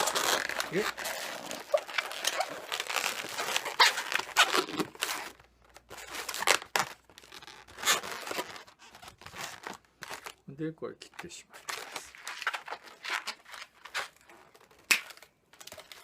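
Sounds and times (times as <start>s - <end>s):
balloons squeaking and rubbing: 0.0s - 10.4s, 11.5s - 14.8s.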